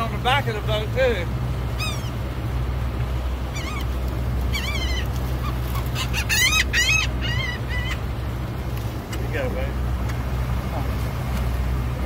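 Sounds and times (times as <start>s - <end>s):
gulls calling: 0.0s - 12.0s
steady low hum: 0.0s - 12.0s.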